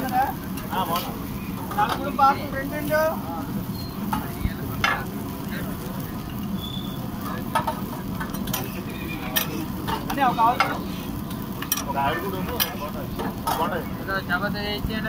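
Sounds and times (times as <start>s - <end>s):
batter sizzling on griddle: 0.0s - 15.0s.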